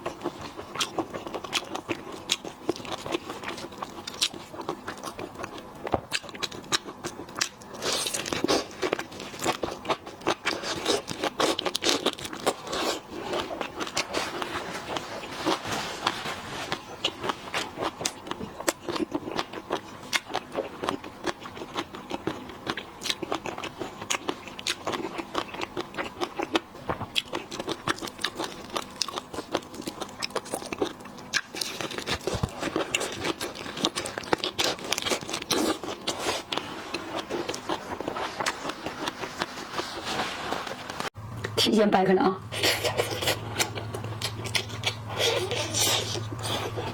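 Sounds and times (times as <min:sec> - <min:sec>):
mouth chewing sounds: 0:00.0 - 0:40.0, 0:42.5 - 0:46.9.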